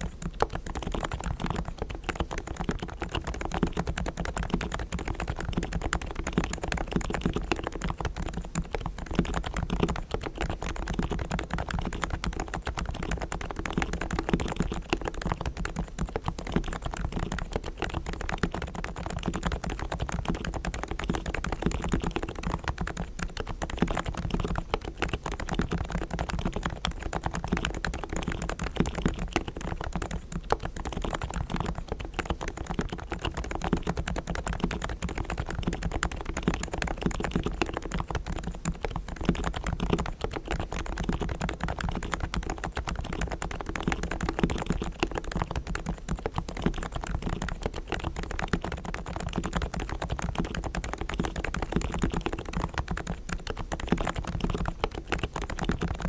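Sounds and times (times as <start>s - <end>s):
keyboard typing: 0.0s - 56.0s.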